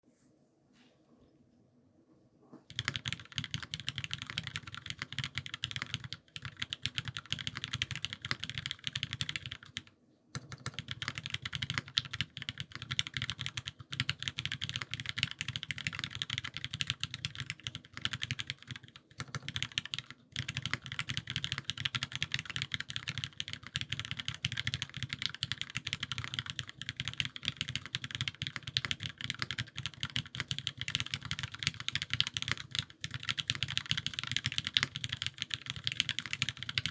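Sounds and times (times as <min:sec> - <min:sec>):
fast mechanical keyboard typing: 0:02.7 - 0:36.9.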